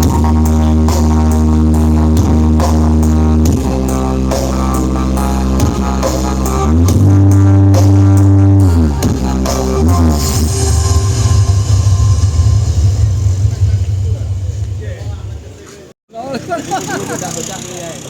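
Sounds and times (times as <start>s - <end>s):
loud music with heavy bass: 0.0s - 14.6s
steady drum beat: 0.0s - 15.6s.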